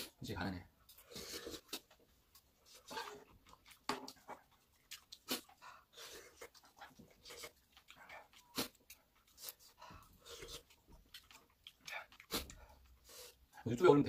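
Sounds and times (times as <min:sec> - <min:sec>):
slurping and chewing: 0:00.8 - 0:13.6.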